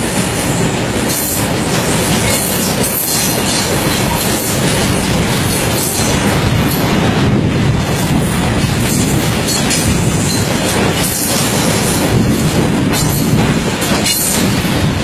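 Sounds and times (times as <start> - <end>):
clacks over rail joints: 0.0 - 15.0
rumble of steel wheels on rails: 0.0 - 15.0.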